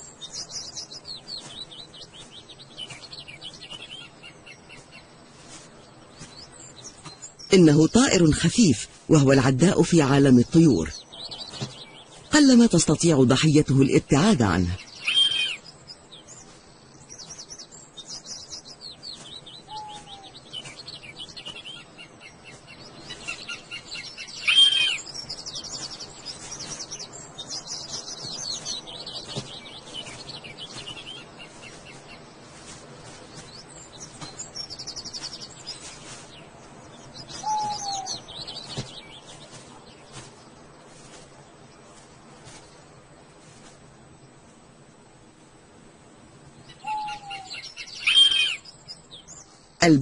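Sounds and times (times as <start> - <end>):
small birds chirping and trilling: 0.0 - 50.0.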